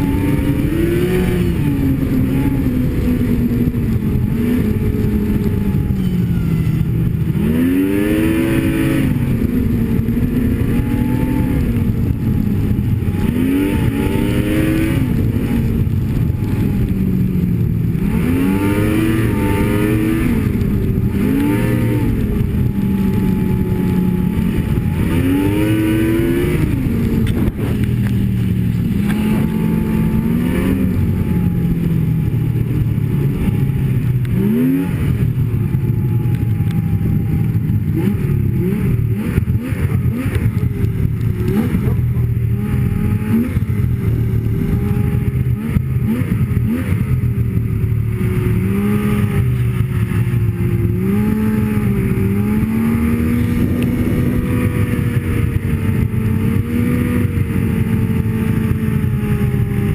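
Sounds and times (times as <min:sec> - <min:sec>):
snowmobile engine revving: 0:00.0 - 0:59.9
wind and track noise: 0:00.0 - 0:59.9.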